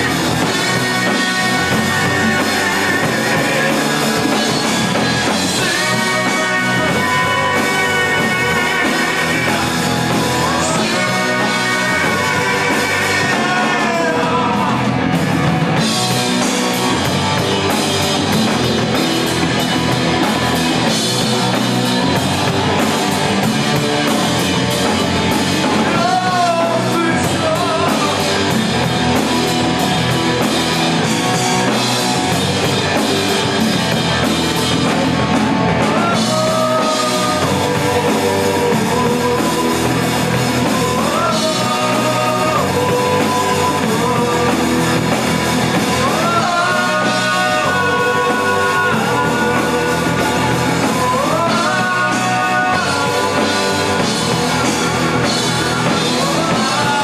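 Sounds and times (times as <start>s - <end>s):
live rock band playing: 0.0s - 57.0s
man singing lead: 0.0s - 57.0s.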